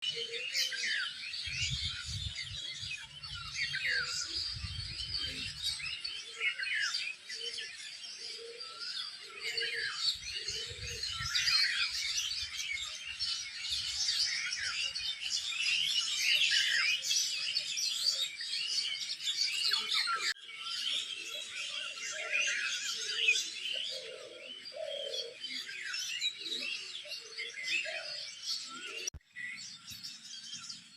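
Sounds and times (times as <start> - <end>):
low bird calls: 0.0 - 30.9
small birds chirping: 0.0 - 30.9.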